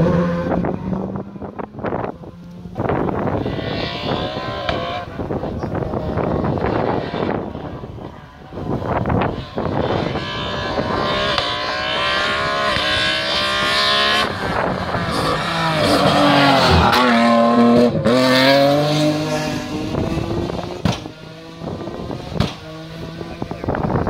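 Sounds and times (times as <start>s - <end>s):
race car accelerating: 0.0s - 24.0s.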